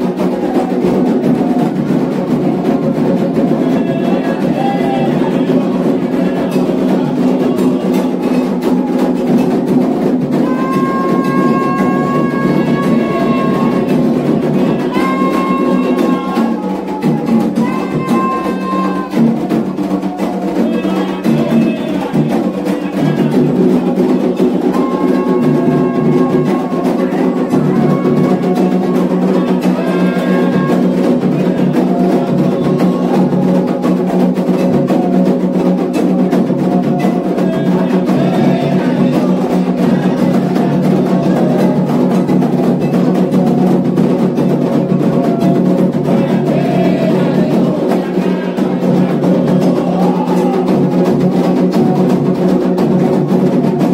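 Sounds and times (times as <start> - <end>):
hand drums playing: 0.0 - 53.9
people singing chant phrases: 0.0 - 53.9.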